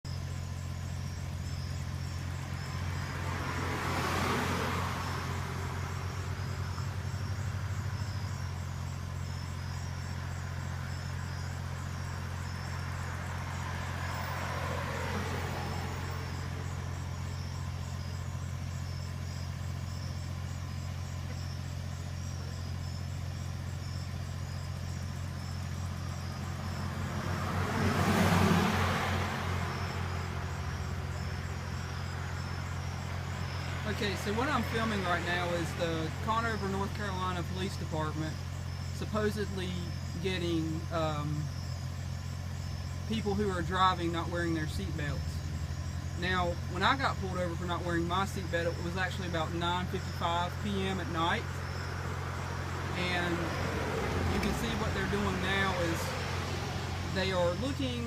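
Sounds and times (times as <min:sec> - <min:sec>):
cars driving past: 0:00.1 - 0:58.0.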